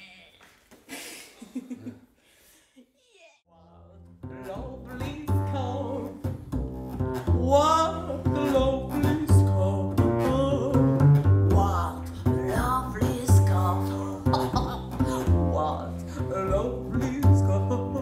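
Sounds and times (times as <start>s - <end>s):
double bass playing low notes: 3.5s - 18.0s.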